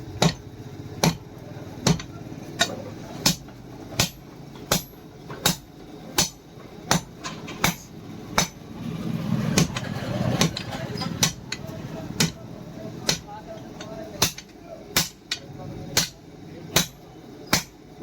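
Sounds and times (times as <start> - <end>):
hammer striking steel on anvil: 0.2 - 8.6, 9.6 - 11.6, 12.2 - 12.4, 13.0 - 15.4, 16.0 - 16.2, 16.8 - 17.8.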